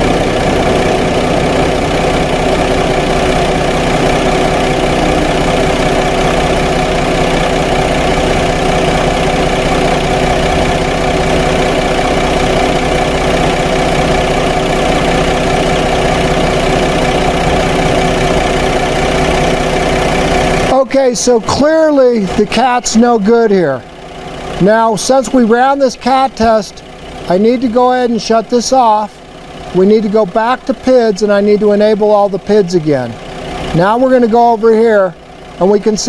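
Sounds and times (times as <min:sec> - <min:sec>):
car engine idling roughly: 0:00.0 - 0:36.0.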